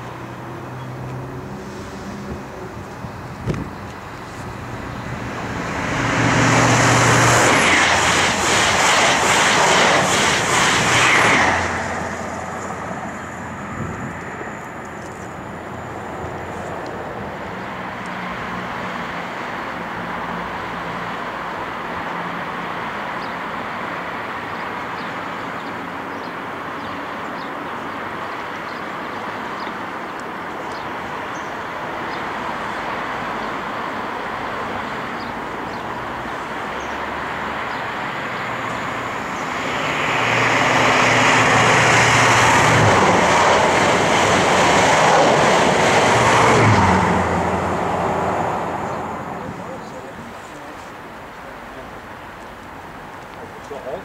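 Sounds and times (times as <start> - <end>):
train passing at speed: 0.0 - 54.0.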